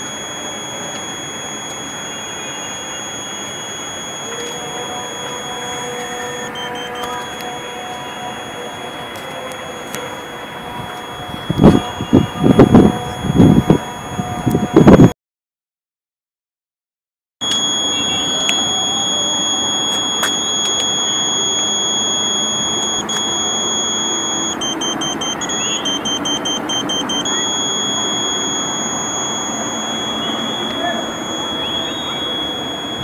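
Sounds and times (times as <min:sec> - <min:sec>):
high-pitched electronic tone: 0:00.0 - 0:15.1, 0:17.4 - 0:33.0
rapid beeping: 0:00.0 - 0:15.1, 0:17.4 - 0:33.0.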